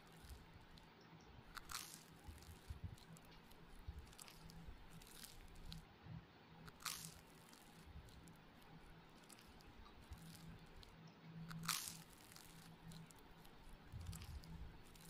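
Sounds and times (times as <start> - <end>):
chewing: 0.0 - 0.9, 1.5 - 5.8, 6.7 - 15.0
fingers squishing rice: 0.0 - 0.9, 1.5 - 5.8, 6.6 - 15.0.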